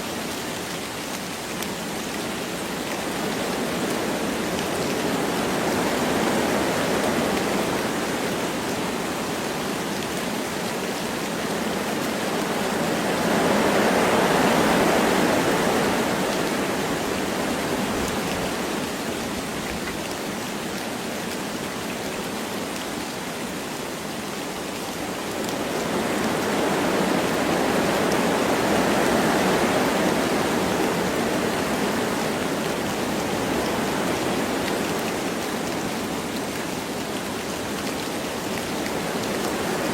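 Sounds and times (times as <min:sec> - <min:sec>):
light rain: 0:00.0 - 0:39.9
wind through forest trees: 0:00.0 - 0:39.9.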